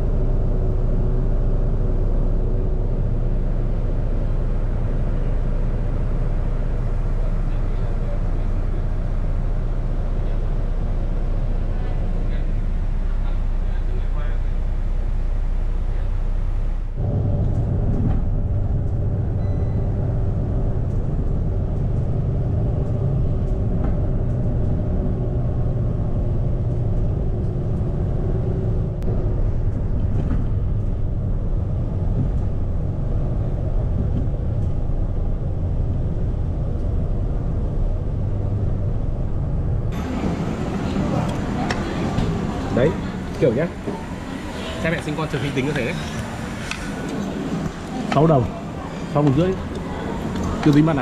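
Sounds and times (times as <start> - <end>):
faint droning tone: 0.0 - 51.0
moving vehicle rumble: 0.0 - 51.0.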